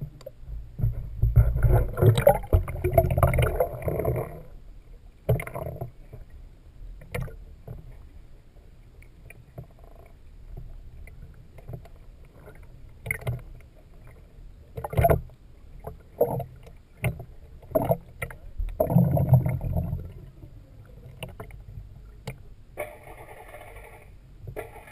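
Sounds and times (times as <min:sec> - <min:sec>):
muffled water sloshing underwater: 0:00.0 - 0:24.9.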